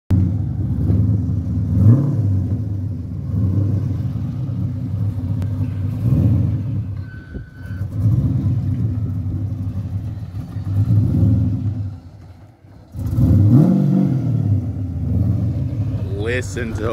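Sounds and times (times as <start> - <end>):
car engine at low revs: 0.1 - 16.9.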